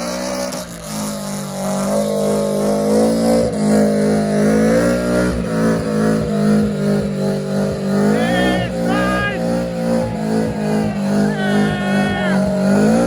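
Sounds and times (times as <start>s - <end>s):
car engine revving high: 0.0s - 13.0s.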